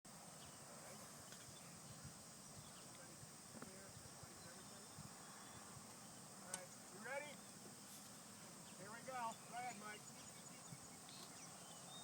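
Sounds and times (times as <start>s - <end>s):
steady high hiss: 0.1s - 12.0s.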